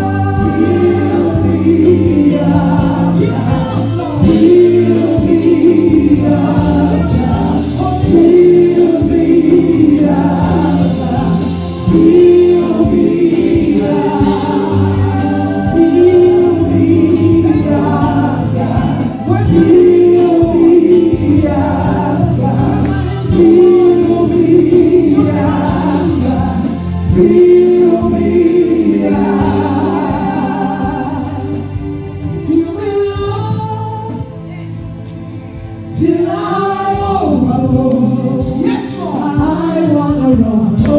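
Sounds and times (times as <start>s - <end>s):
band with steady beat: 0.0s - 40.9s
gospel choir singing: 0.0s - 40.9s.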